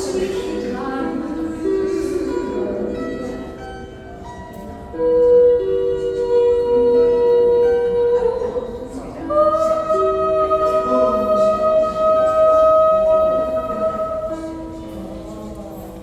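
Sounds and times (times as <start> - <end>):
gentle lyre music: 0.0 - 16.0.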